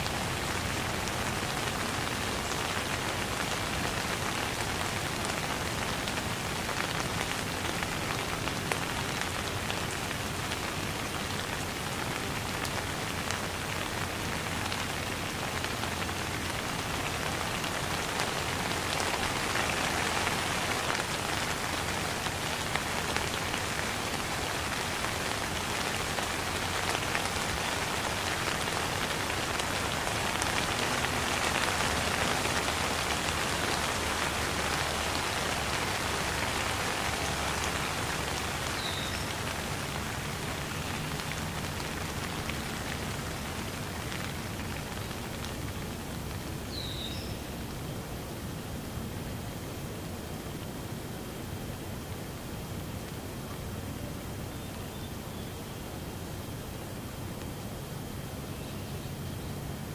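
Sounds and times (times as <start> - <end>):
steady rain on wet surface: 0.0 - 59.9.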